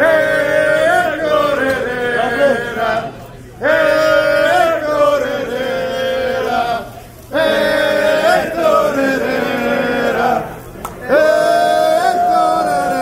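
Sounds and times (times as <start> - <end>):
soccer supporters chanting: 0.0 - 13.0.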